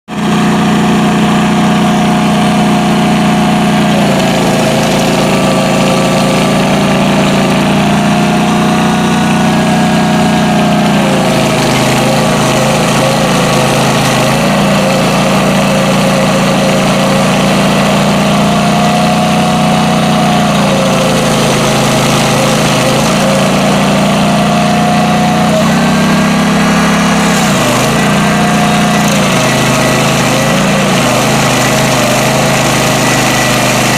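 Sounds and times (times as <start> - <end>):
petrol engine running at high throttle: 0.0 - 33.9.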